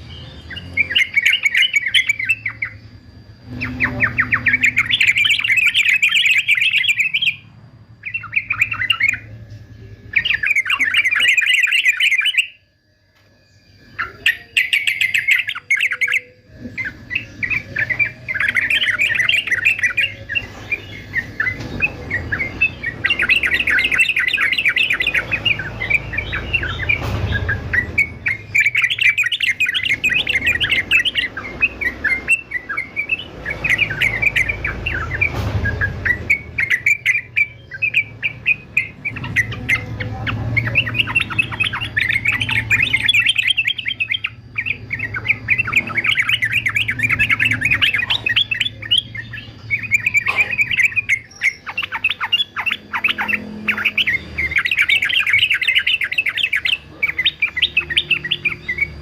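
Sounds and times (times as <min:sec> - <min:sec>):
bird singing chattering phrases: 0:00.0 - 0:12.6, 0:13.5 - 0:59.0
low hum: 0:00.0 - 0:52.0.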